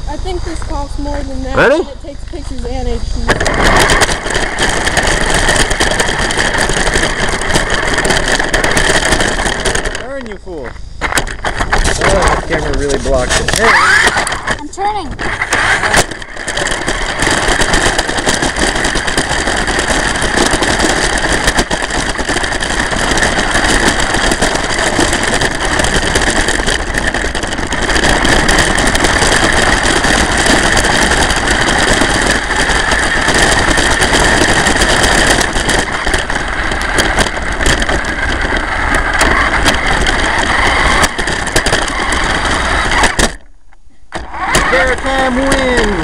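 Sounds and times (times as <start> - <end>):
high motor whine: 0.0 - 46.0
tyres on gravel and rattling body: 0.0 - 46.0.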